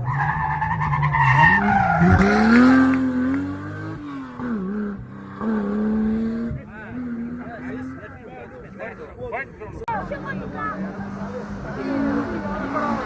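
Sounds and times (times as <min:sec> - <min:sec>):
car engine running hard: 0:01.6 - 0:13.0.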